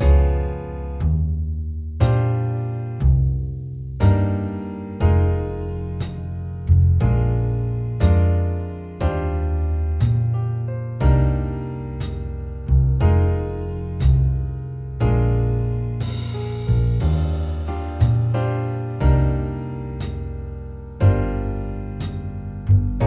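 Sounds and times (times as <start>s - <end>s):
piano chords: 0.0s - 1.2s, 4.0s - 23.0s
bass notes: 0.0s - 23.0s.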